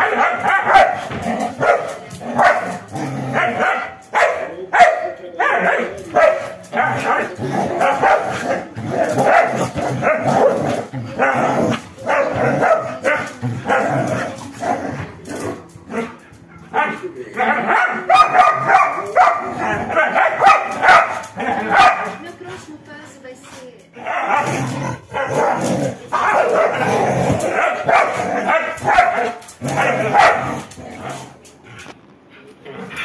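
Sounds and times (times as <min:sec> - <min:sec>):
dogs barking: 0:00.0 - 0:22.3, 0:24.0 - 0:30.8.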